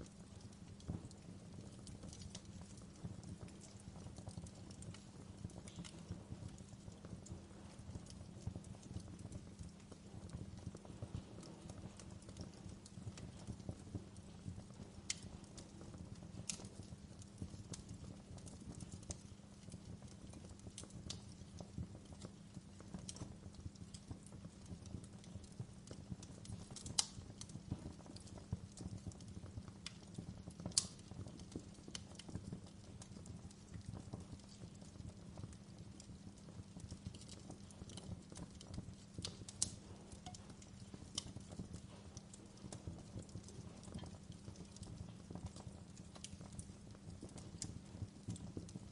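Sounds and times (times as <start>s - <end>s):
burning logs popping: 0.0s - 48.9s
wood fire crackling: 0.0s - 48.9s.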